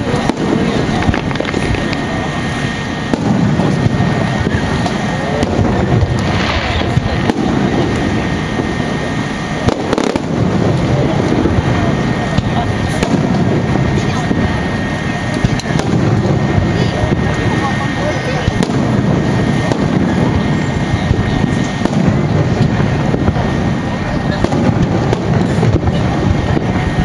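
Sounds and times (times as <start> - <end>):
crowd voices: 0.0 - 27.0
fireworks bangs: 0.0 - 27.0.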